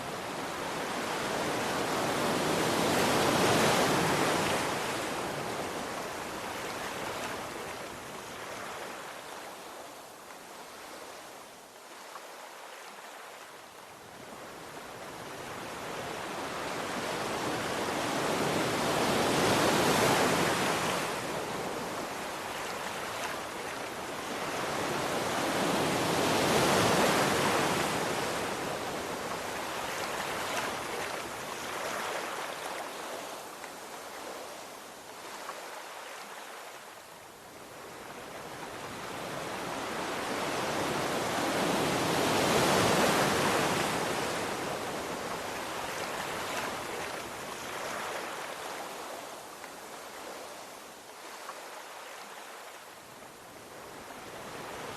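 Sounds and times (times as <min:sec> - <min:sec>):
sea waves washing ashore: 0:00.0 - 0:54.9.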